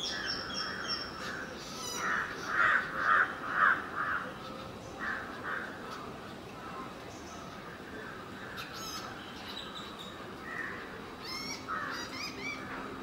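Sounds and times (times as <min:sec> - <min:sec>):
bird harsh calls: 0:00.0 - 0:06.1, 0:07.2 - 0:12.9
faint high-pitched bird calls: 0:00.0 - 0:13.0.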